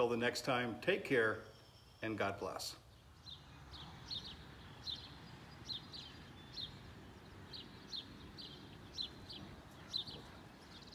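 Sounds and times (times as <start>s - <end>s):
low background noise: 0.0s - 10.9s
songbird chirping: 0.0s - 10.9s.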